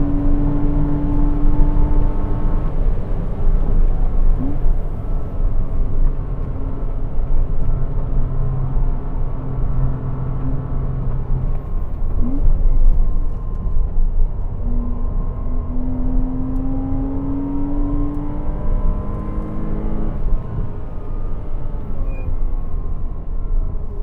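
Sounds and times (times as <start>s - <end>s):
car engine revving: 0.0s - 13.6s, 14.4s - 21.8s.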